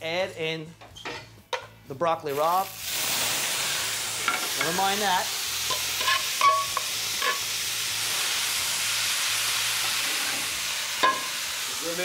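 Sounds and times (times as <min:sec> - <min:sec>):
vegetables sizzling in oil: 0:02.3 - 0:12.0.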